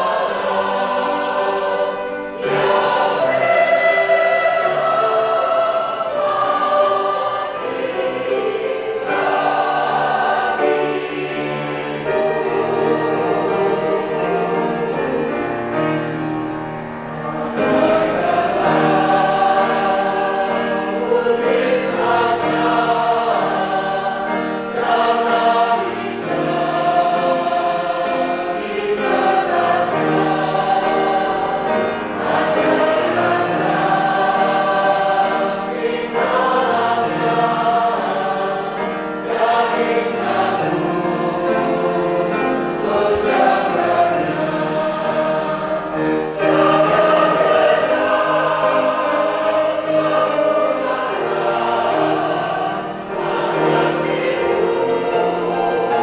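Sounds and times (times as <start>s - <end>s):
mixed choir singing a hymn: 0.0s - 56.0s.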